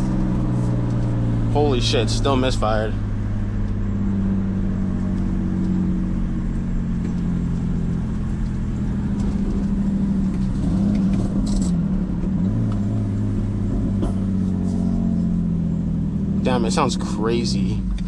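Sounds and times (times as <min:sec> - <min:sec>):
misfiring car engine running: 0:00.0 - 0:18.0.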